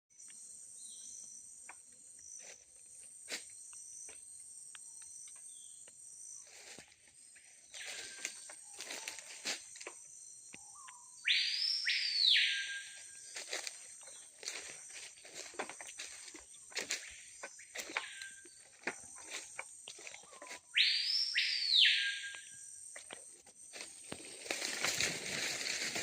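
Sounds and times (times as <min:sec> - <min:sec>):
high-pitched insect chorus: 0:00.2 - 0:26.0.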